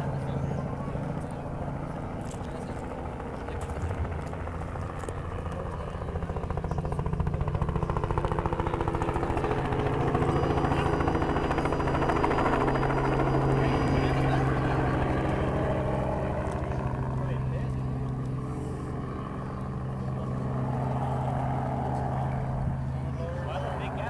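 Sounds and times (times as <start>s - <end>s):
helicopter rotor chopping: 0.0s - 24.0s.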